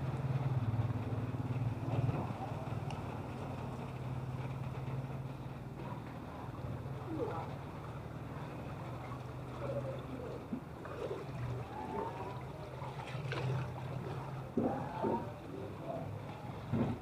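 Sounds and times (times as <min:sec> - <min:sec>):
low engine hum: 0:00.0 - 0:17.0
water sloshing from wading: 0:00.0 - 0:17.0.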